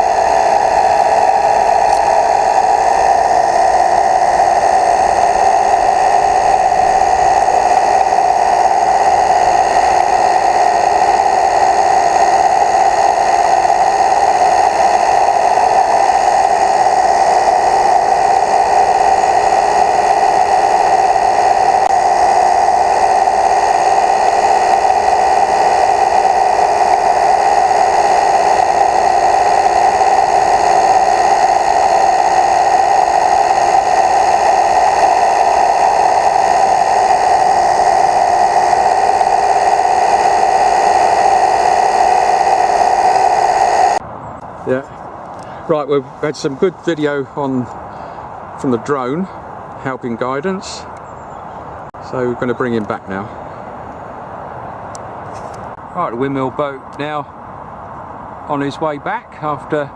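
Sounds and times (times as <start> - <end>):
drone propellers whirring: 0.0 - 59.9.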